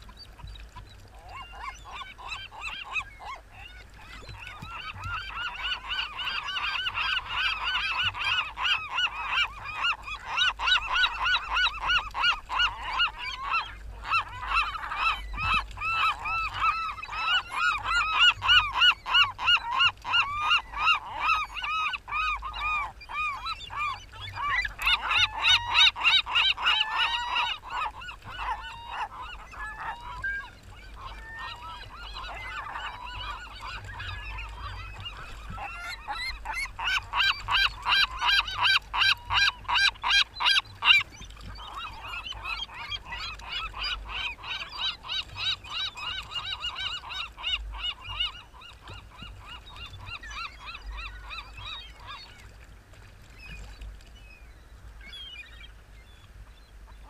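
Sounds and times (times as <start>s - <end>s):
splashing in shallow water: 0.0s - 57.0s
gulls calling: 0.2s - 52.5s.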